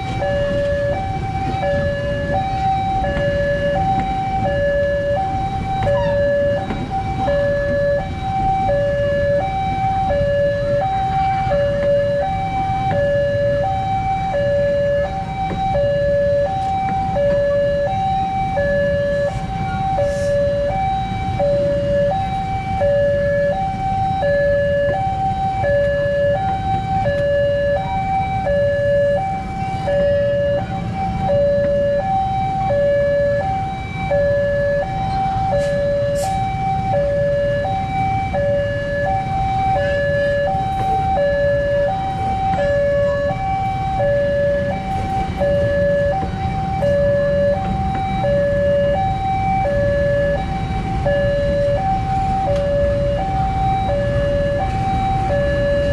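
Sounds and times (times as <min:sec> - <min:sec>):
train coaches rumbling on track: 0:00.0 - 0:55.9
two-tone crossing alarm: 0:00.0 - 0:55.9.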